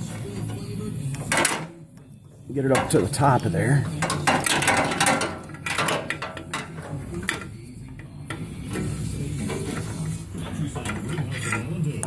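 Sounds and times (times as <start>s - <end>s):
metal scraping: 0.0s - 12.0s.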